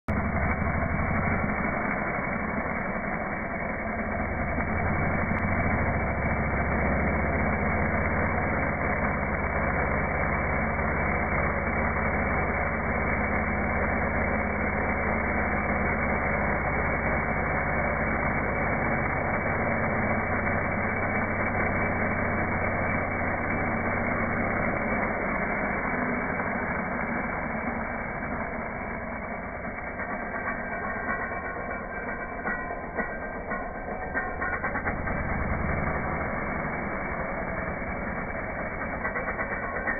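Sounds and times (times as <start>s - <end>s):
slowed chainsaw engine drone: 0.0s - 39.9s.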